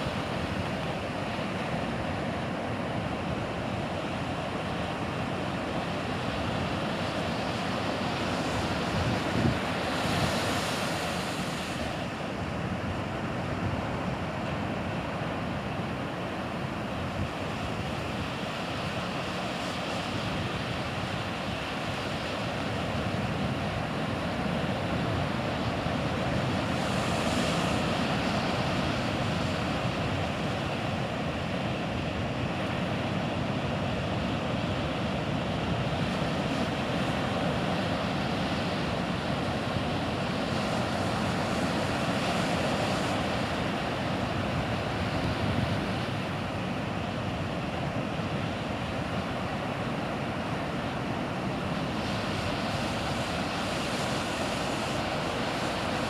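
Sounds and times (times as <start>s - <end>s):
ocean surf washing: 0.0s - 56.0s
wind on microphone: 0.0s - 56.0s.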